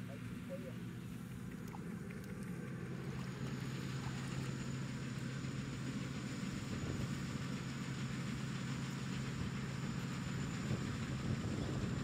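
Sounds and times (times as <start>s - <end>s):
constant noisy hiss: 0.0s - 12.0s
engine humming: 0.0s - 12.0s.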